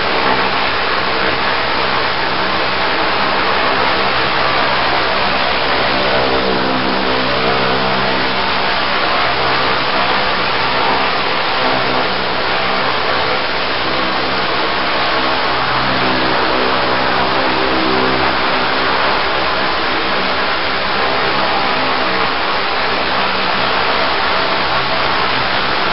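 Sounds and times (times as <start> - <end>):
pump engine running: 0.0 - 25.9.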